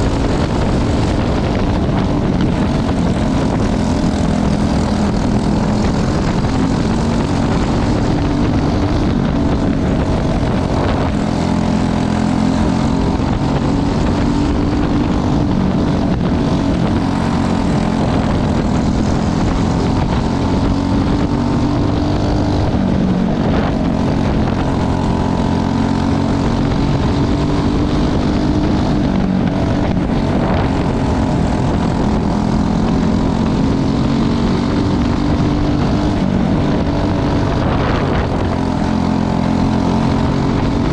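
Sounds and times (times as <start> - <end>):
kart engines buzzing: 0.0 - 40.9.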